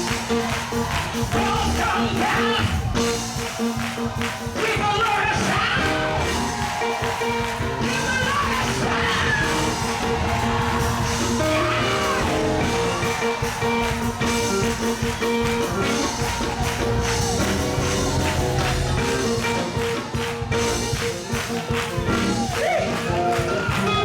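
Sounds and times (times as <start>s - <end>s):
drum kit: 0.0s - 24.0s
guitar: 0.0s - 24.0s
held keyboard chords: 0.0s - 24.0s.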